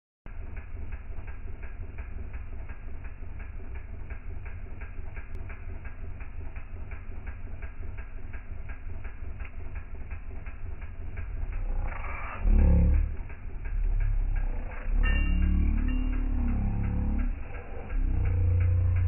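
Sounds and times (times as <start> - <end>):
fire low rumble: 0.3 - 19.0.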